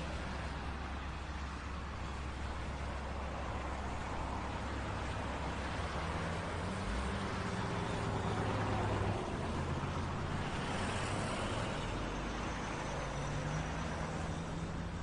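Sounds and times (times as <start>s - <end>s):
motor vehicle engines running: 0.0s - 15.0s
street noise: 0.0s - 15.0s.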